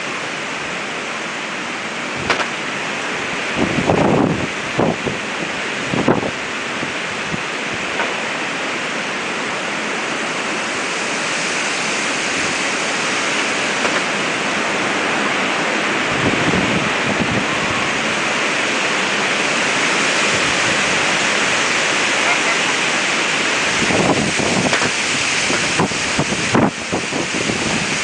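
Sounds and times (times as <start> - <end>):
storm wind rushing through trees: 0.0 - 28.0
wind buffeting microphone: 2.0 - 8.9, 10.3 - 28.0.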